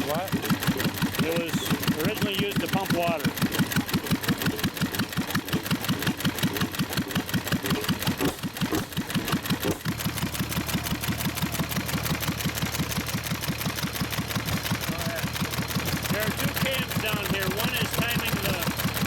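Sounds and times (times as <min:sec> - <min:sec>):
single-cylinder engine running: 0:00.0 - 0:19.0.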